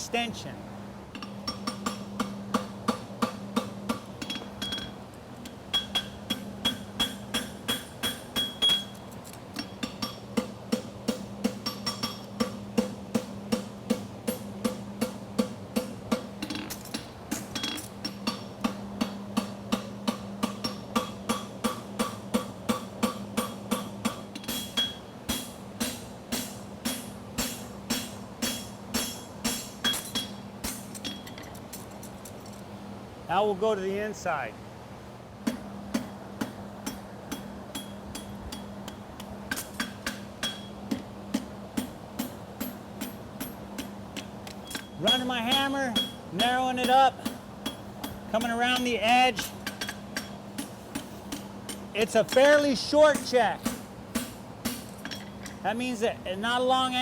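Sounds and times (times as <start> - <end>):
steady low hum: 0.0 - 57.0
hammer striking horseshoe on anvil: 1.1 - 5.0, 5.7 - 9.0, 9.6 - 31.4, 35.4 - 55.6.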